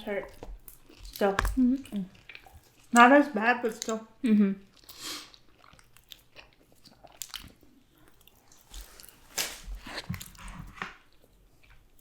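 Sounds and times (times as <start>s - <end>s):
person chewing food: 0.0s - 3.1s, 4.6s - 12.0s.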